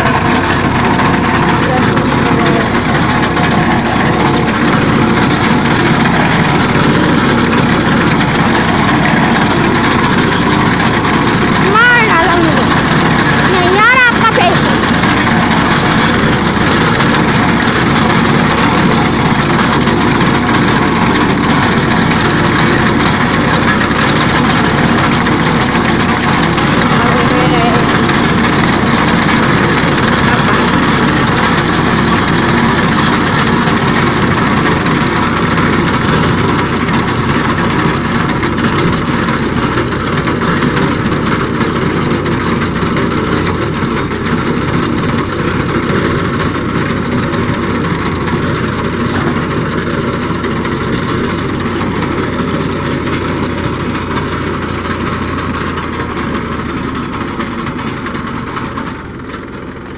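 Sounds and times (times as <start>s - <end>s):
reaper cutter clatter: 0.0s - 59.9s
tractor diesel engine under load: 0.0s - 59.9s.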